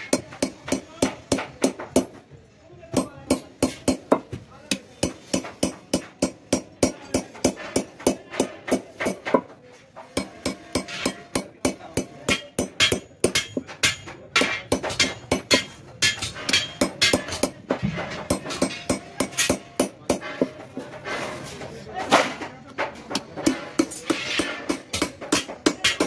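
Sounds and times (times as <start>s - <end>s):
hammer tapping metal punch: 0.0s - 2.2s, 2.9s - 20.9s, 22.8s - 26.0s.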